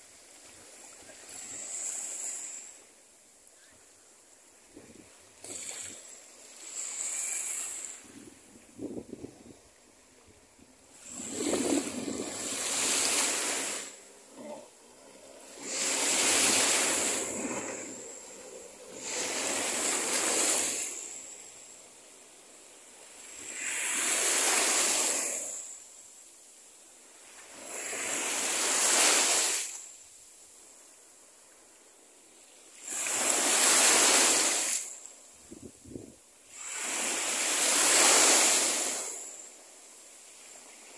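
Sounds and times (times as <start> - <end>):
faint hiss of sea: 0.0 - 40.9
small waves washing ashore: 0.0 - 40.9.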